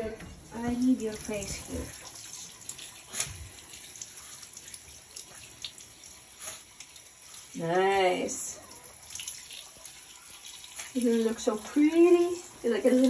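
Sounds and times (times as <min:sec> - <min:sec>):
water spraying from shower sprayer: 0:00.5 - 0:08.5, 0:09.1 - 0:13.0.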